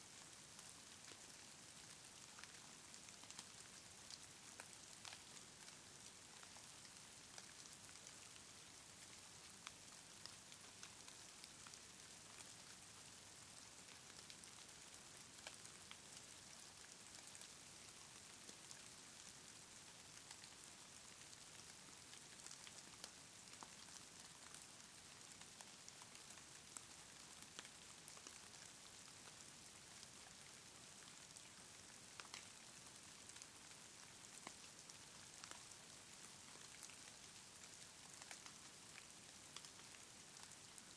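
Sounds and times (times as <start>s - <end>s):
faint steady hiss: 0.0s - 40.9s
small ticks: 1.0s - 8.3s, 13.9s - 40.9s.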